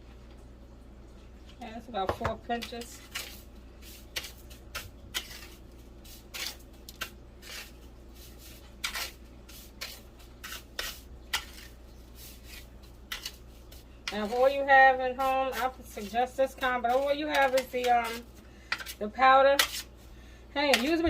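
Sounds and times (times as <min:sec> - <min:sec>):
bowl and utensils scraping: 0:02.0 - 0:20.0, 0:20.6 - 0:21.0.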